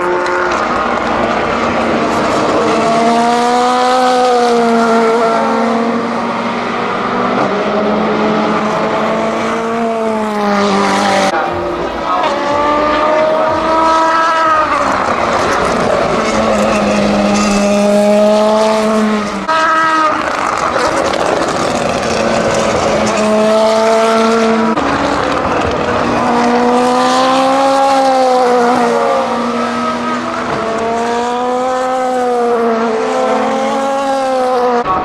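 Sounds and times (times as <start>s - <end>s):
race car engines at speed: 0.0s - 35.0s.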